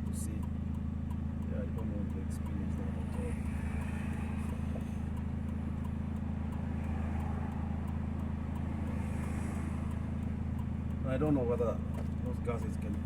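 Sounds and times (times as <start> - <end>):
leaking car exhaust drone: 0.0 - 13.0.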